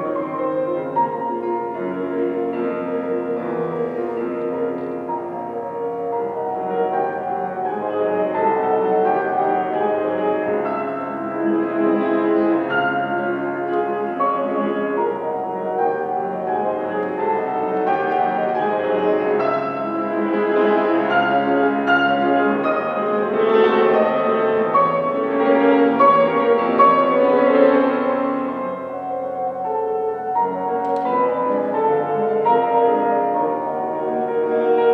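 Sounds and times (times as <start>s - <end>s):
solo classical piano: 0.0s - 34.9s.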